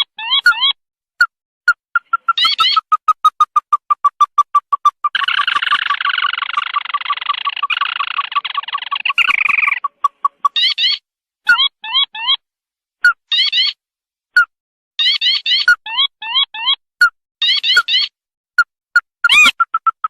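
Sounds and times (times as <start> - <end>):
recorded bird lure call: 0.0 - 12.4, 13.0 - 13.8, 14.4 - 16.8, 17.4 - 18.2, 19.0 - 20.0.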